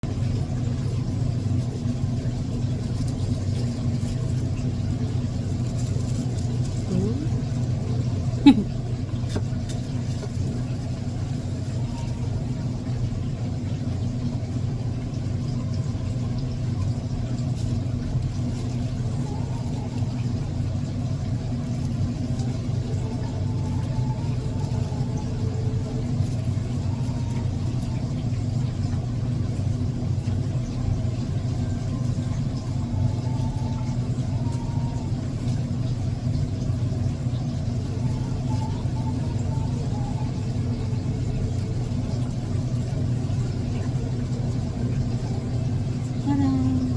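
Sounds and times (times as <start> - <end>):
low mechanical hum: 0.0 - 46.9.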